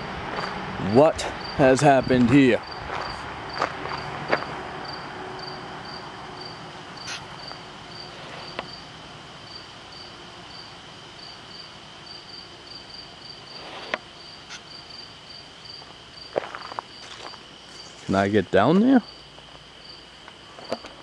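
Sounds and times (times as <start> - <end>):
high insect trill: 0.0 - 21.0
insects chirping: 0.0 - 21.0.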